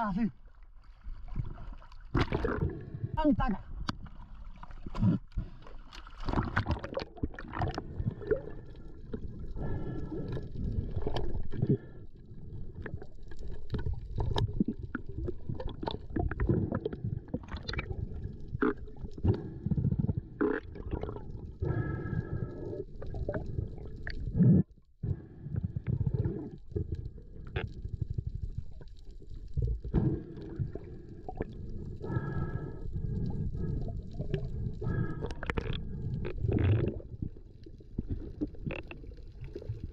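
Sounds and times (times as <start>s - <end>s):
underwater rumble of moving water: 0.0s - 39.9s
bubbling gurgles: 1.1s - 3.2s, 4.1s - 39.9s.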